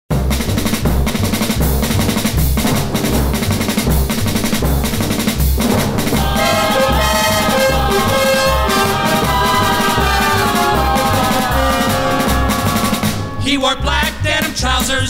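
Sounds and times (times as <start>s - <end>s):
thudding bass pulse: 0.1s - 14.5s
rock and roll drum beat: 0.1s - 15.0s.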